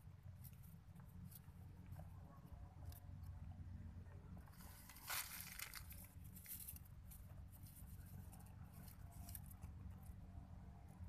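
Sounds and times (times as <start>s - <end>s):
faint rustling and crackling: 0.0s - 10.3s.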